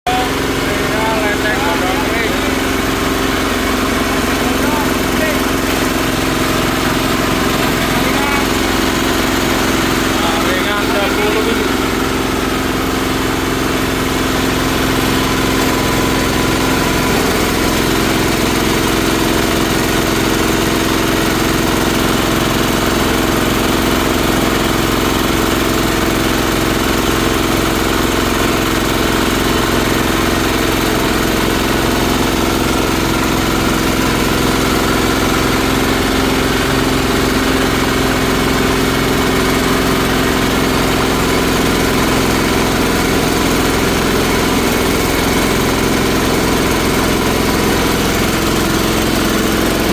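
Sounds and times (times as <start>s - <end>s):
shredder machine droning: 0.0s - 49.9s.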